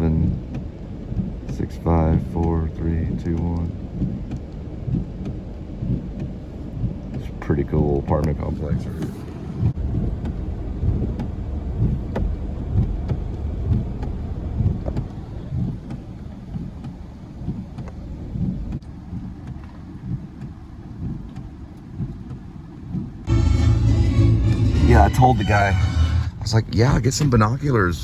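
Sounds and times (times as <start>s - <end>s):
road and engine rumble inside car: 0.0s - 28.0s.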